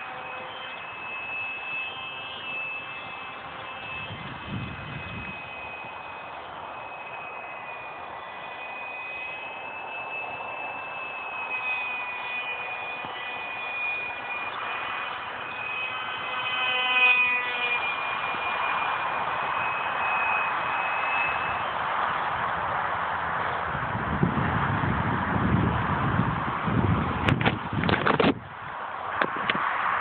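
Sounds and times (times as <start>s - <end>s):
model plane motor whining: 0.0s - 28.4s.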